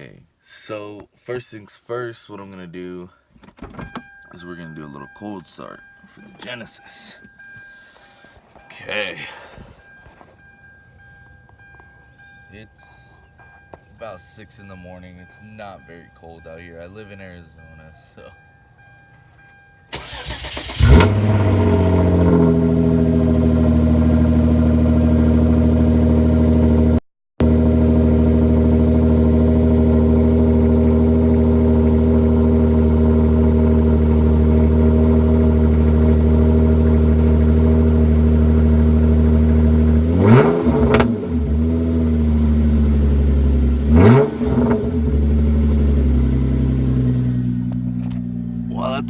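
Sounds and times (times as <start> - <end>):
car engine starting and idling: 3.4 - 49.0.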